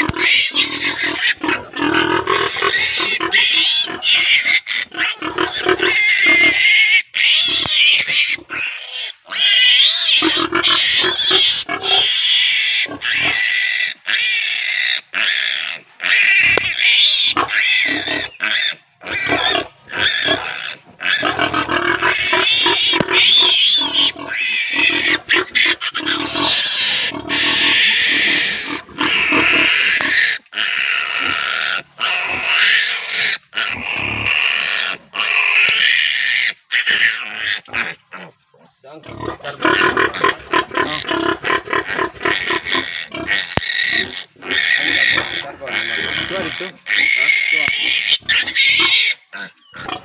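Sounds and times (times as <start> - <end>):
piglet squealing: 0.0 - 38.4, 39.1 - 50.0.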